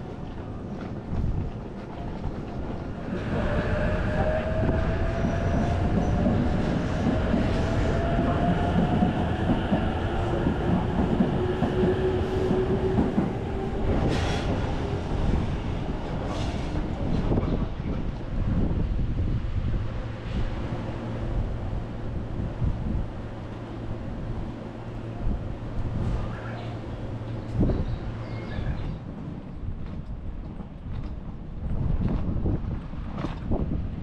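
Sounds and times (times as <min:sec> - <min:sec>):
train wheel rumble on rails: 0:00.0 - 0:34.0.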